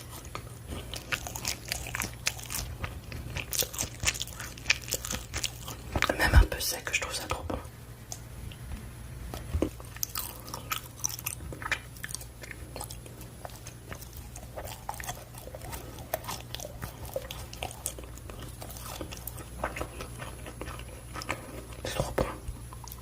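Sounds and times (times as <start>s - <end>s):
chewing rice cake: 0.0s - 6.2s, 9.3s - 23.0s.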